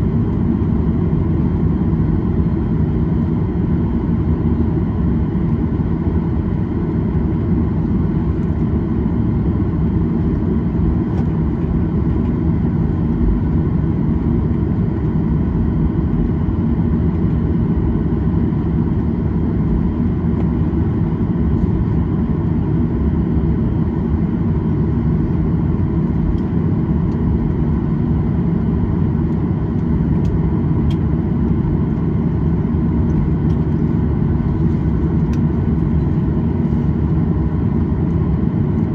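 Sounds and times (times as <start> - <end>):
aircraft engines rumbling: 0.0 - 38.9
faint steady engine whine: 0.0 - 38.9.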